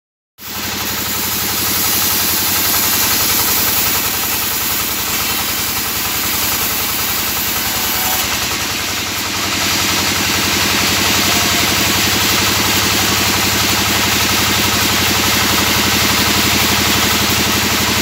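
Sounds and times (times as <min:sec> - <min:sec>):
band sawmill running: 0:00.4 - 0:18.0.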